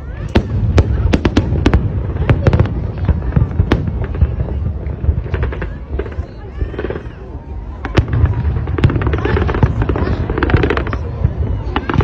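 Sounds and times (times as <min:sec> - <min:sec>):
fireworks cracks and pops: 0:00.0 - 0:12.0.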